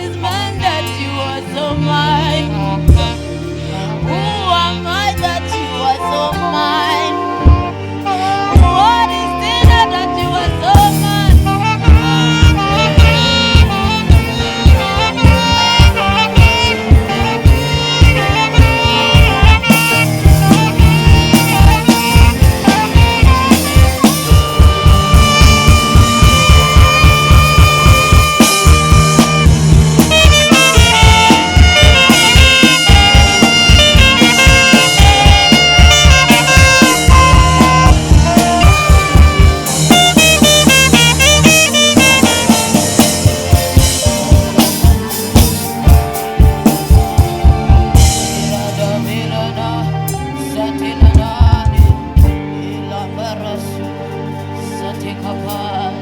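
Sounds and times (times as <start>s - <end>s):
drum kit beat: 0.0s - 3.4s, 4.5s - 52.6s
saxophone solo: 0.0s - 54.8s
bass: 0.0s - 56.0s.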